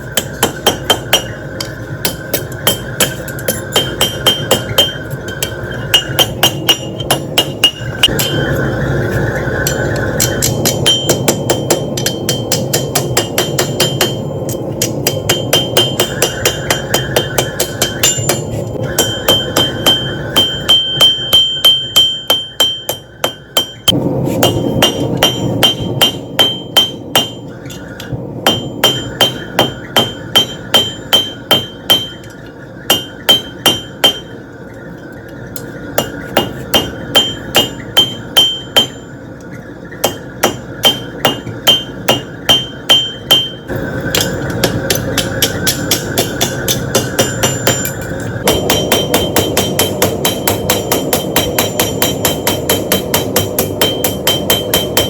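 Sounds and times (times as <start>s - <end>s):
hammer striking steel on anvil: 0.0s - 34.4s, 35.6s - 39.2s, 40.0s - 55.0s.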